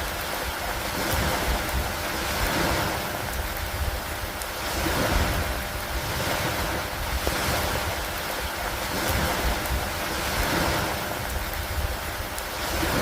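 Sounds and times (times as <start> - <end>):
steady rain: 0.0 - 13.0
wind: 0.0 - 13.0.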